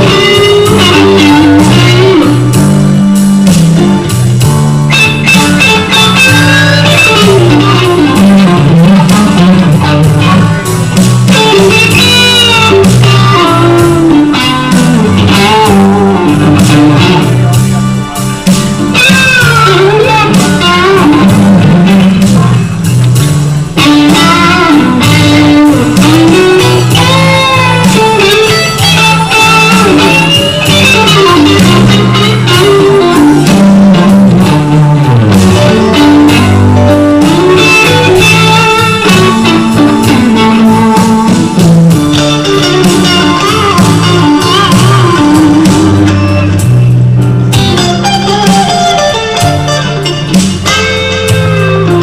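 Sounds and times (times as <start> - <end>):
bass line: 0.0 - 52.0
electric guitar lead with bends: 0.0 - 52.0.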